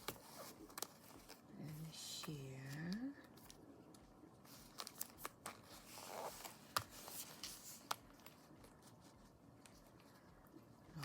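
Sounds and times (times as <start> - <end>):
paper and plastic rustling: 0.0 - 11.0.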